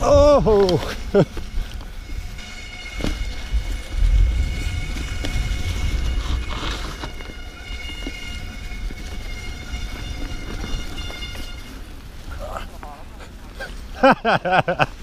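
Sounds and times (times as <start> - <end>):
wind rumble on microphone: 0.0 - 13.5
bike brakes squealing: 0.1 - 12.2.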